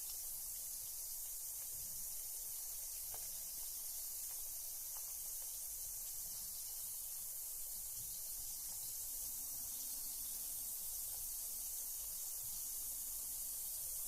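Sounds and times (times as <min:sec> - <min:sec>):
faint crackles: 0:00.0 - 0:12.6
bath bomb fizzing: 0:00.0 - 0:14.0.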